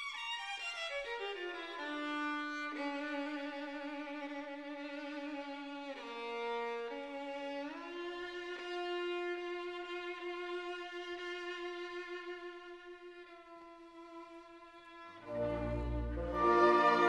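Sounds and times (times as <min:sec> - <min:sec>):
bowed string instrument melody: 0:00.0 - 0:17.0.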